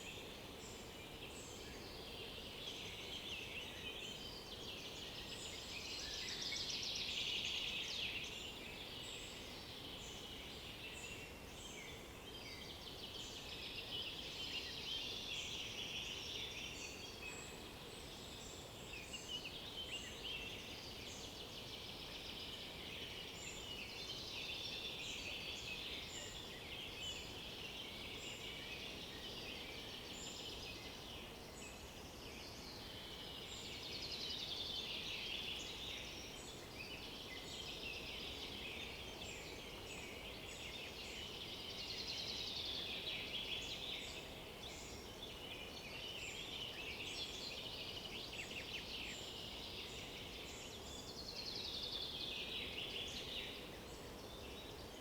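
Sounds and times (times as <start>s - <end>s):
faint steady hiss: 0.0s - 55.0s
songbirds singing: 0.0s - 55.0s.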